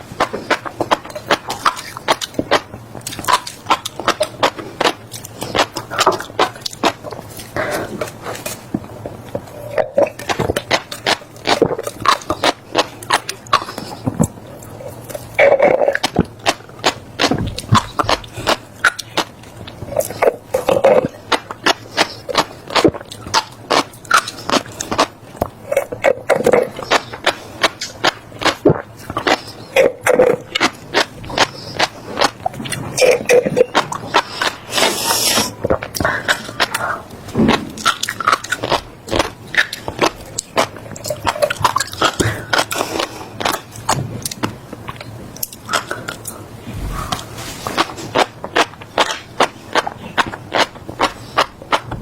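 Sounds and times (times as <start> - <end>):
chewing crunchy seeds: 0.0 - 52.0.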